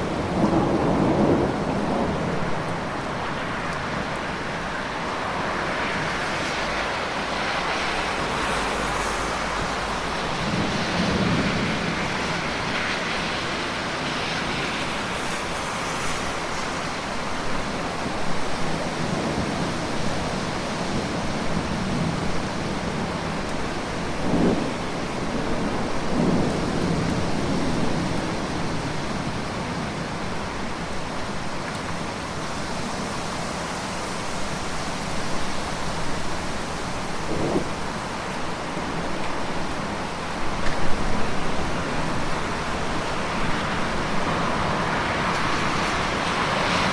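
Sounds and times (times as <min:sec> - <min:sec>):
steady rainfall: 0:00.0 - 0:46.9.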